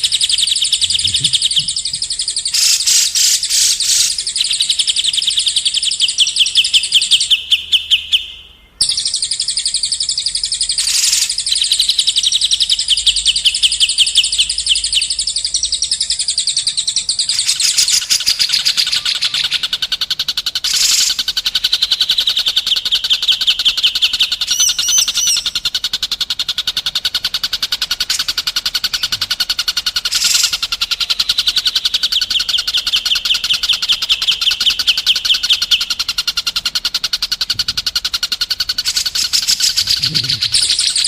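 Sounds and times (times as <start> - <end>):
songbird trilling: 0.0 - 41.0.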